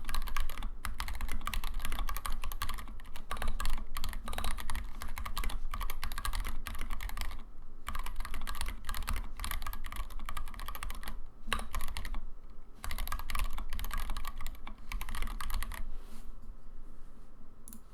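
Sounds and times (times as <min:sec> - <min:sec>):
mechanical keyboard typing: 0:00.0 - 0:12.2, 0:12.8 - 0:15.8.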